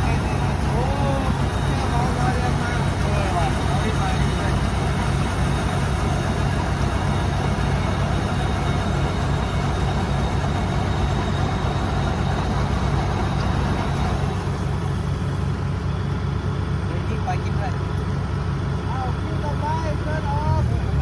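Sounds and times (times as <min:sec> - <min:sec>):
harvesting machine engine running: 0:00.0 - 0:21.0.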